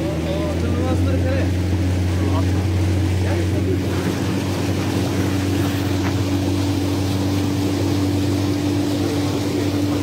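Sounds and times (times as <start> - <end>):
outboard motor running: 0.0 - 10.0
water hissing: 0.0 - 10.0
wind: 0.0 - 10.0.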